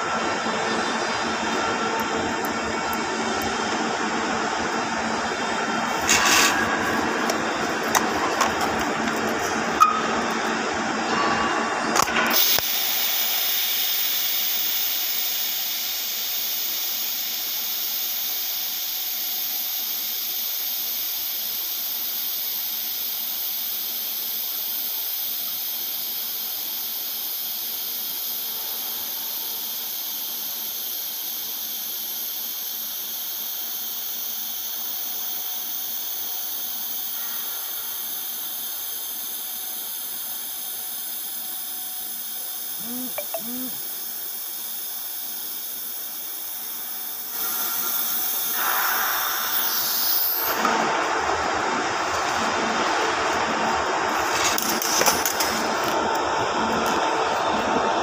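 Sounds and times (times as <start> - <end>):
welding arc hissing: 5.7 - 10.5, 12.0 - 58.0.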